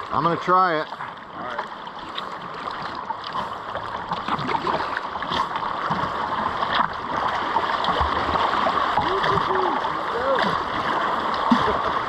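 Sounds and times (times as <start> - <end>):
rushing water of river rapid: 0.0 - 12.0.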